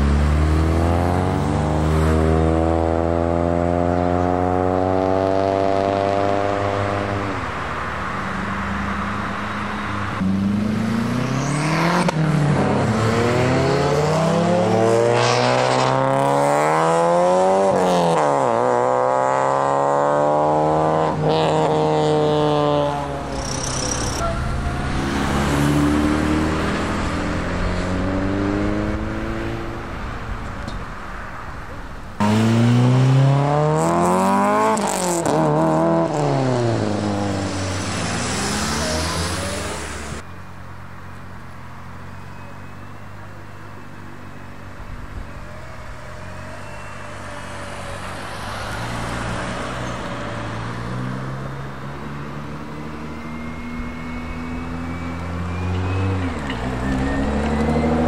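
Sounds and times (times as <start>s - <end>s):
loud car revving and passing: 0.0s - 40.9s, 41.6s - 58.0s
car engines accelerating: 0.0s - 58.0s.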